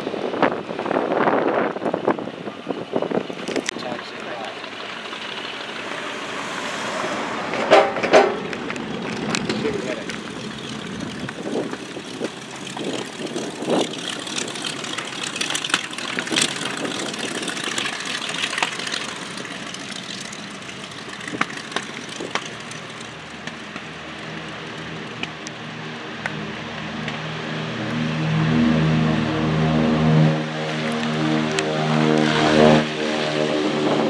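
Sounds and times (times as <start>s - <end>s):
propeller airplane engine drone: 0.0s - 34.0s.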